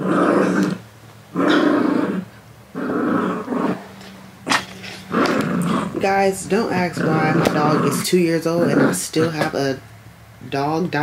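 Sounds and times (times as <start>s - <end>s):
small dog growling: 0.0s - 9.5s.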